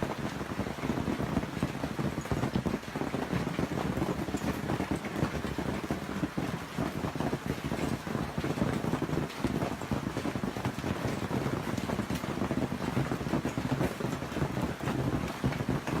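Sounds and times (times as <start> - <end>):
patter of falling hail or rain: 0.0 - 16.0
wind buffeting microphone: 0.0 - 16.0.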